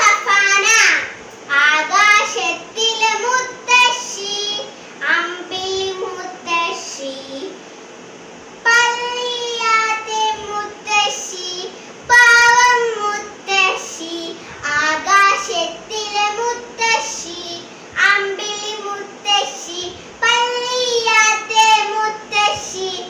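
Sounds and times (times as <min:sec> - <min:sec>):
girl singing: 0:00.0 - 0:07.6, 0:08.6 - 0:23.0.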